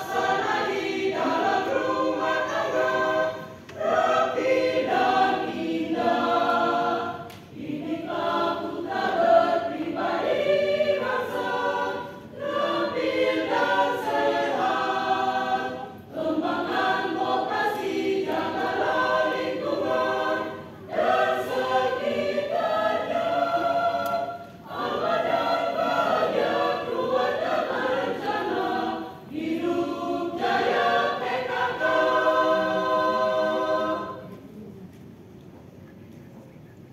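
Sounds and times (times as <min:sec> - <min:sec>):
choir singing: 0:00.0 - 0:34.5.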